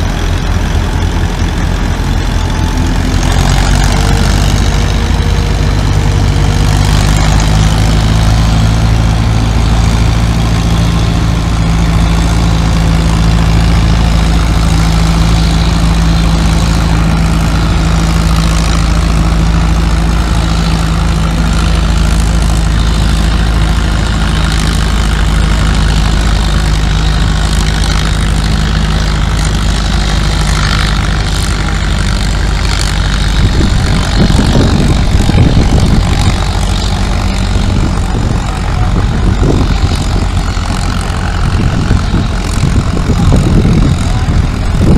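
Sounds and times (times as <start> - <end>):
tractor engine droning: 0.0 - 44.9.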